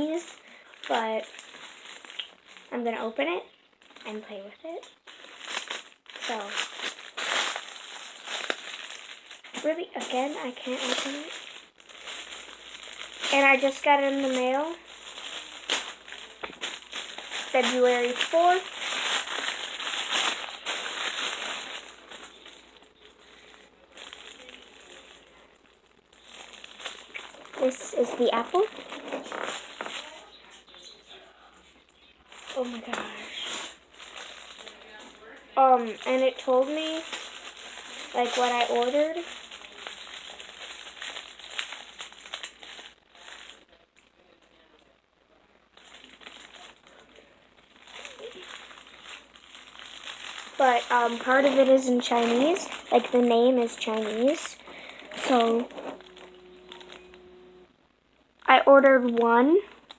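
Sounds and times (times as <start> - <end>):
package crinkling and rustling: 0.0 - 3.1, 3.7 - 30.9, 31.8 - 44.2, 45.7 - 57.6, 59.0 - 59.9.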